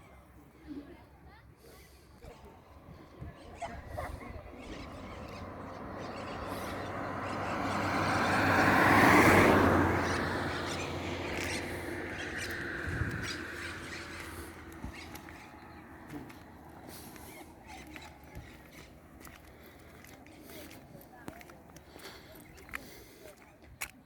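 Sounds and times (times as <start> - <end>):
vehicle passing on road: 1.7 - 23.4.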